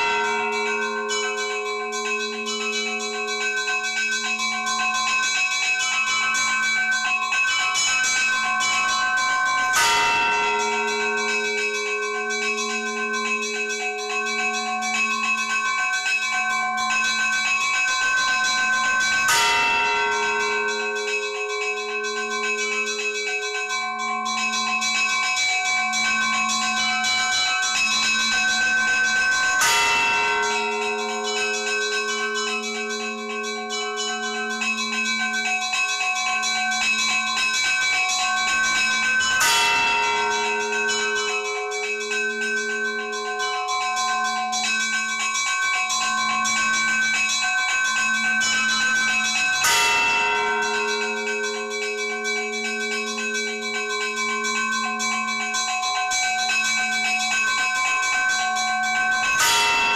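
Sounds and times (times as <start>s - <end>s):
heavy bell strokes: 0.0s - 59.9s
small church bells ringing: 0.0s - 59.9s.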